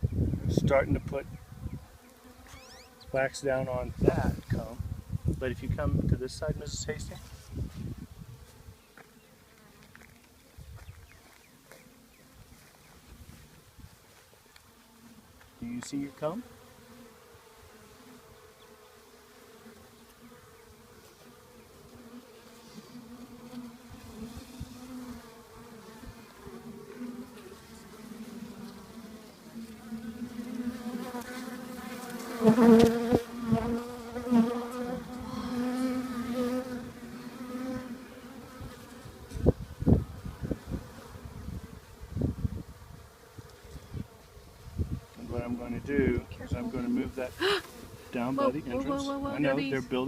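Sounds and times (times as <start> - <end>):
bees buzzing: 0.0 - 50.0.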